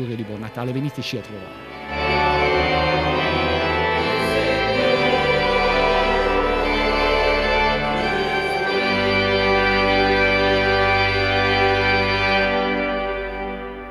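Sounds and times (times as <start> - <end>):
organ: 0.0 - 13.9
choir singing slow chords: 0.4 - 13.9.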